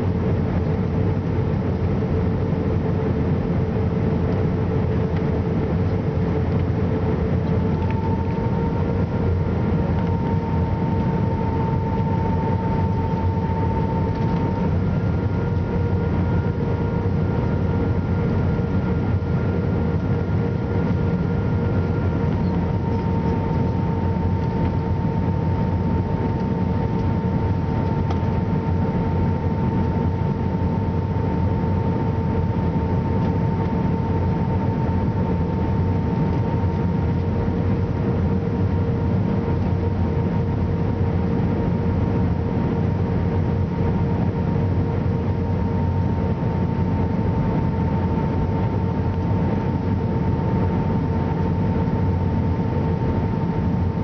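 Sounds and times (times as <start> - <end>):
aircraft cabin engine rumble: 0.0 - 54.0
steady humming tones: 0.0 - 54.0.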